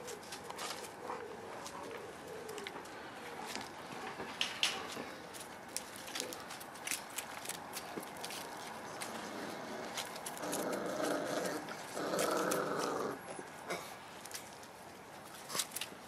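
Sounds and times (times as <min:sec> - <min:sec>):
puppies play-growling: 0:00.0 - 0:14.0
paws scuffling on ground: 0:00.0 - 0:16.0.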